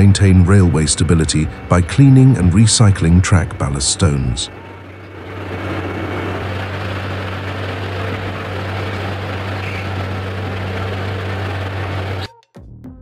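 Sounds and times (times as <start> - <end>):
low engine drone: 0.0 - 12.3
rushing machinery and stone: 0.0 - 12.3.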